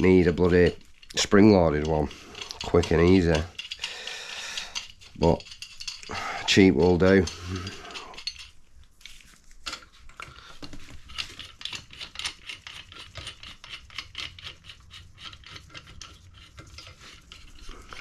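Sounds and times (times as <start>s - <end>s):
small metal clicks and scrapes: 0.0s - 18.0s.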